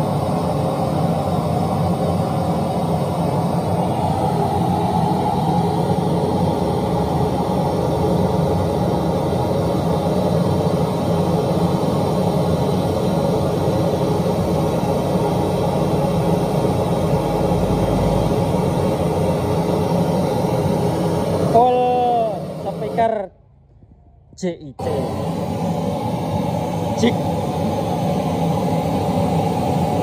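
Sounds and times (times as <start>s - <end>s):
loud test noise through speakers: 0.0s - 30.0s.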